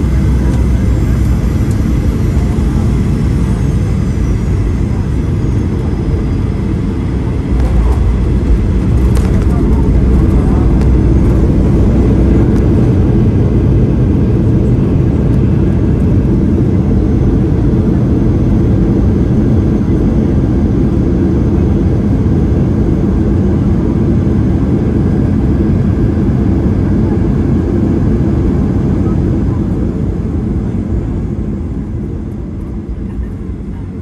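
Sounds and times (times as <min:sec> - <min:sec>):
deep rumble of jet engines: 0:00.0 - 0:34.0.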